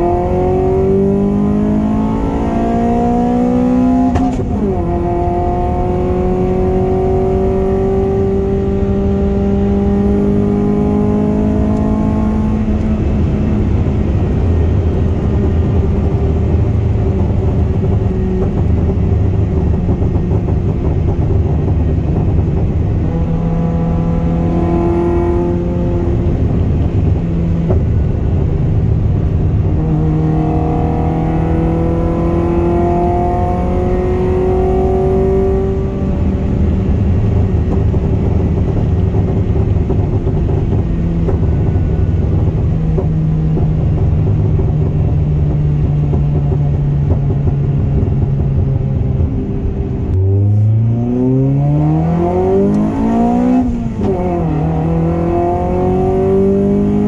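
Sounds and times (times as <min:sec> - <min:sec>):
car engine revving: 0:00.0 - 0:57.0
road noise: 0:00.0 - 0:57.0.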